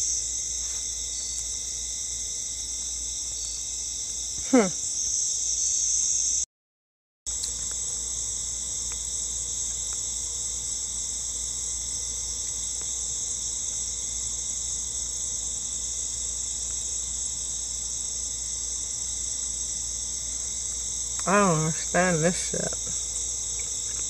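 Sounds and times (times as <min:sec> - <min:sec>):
night insects trilling: 0:00.0 - 0:06.4, 0:07.3 - 0:24.0.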